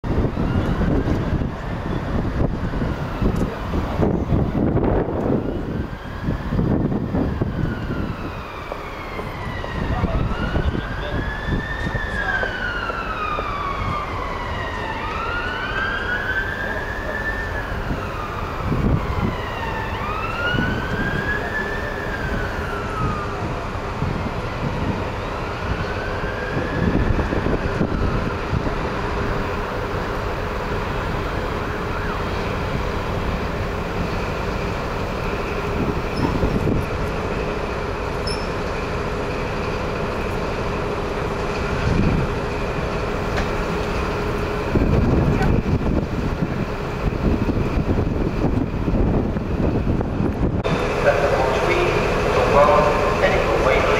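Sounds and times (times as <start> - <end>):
emergency siren wailing: 0.0 - 53.9
train diesel engine drone: 0.0 - 53.9.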